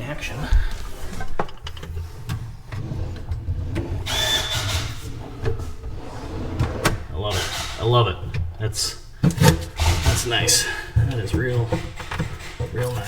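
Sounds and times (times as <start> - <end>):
drawer sliding with clicks and knocks: 0.6 - 13.0.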